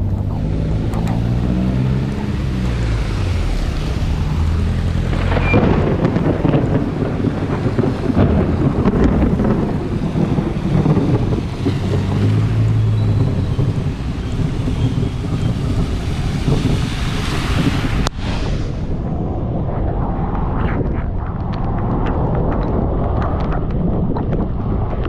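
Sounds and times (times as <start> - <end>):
rain and wet road rush: 0.0 - 25.0
wind buffeting microphone: 0.0 - 25.0.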